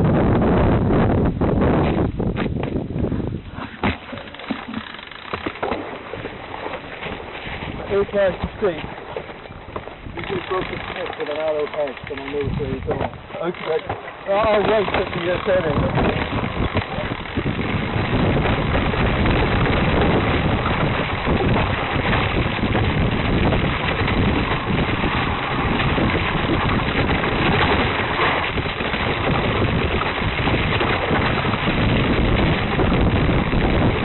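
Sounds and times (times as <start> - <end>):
wind buffeting microphone: 0.0 - 4.8, 5.4 - 34.0
bicycle tyres rattling over rough ground: 1.6 - 34.0.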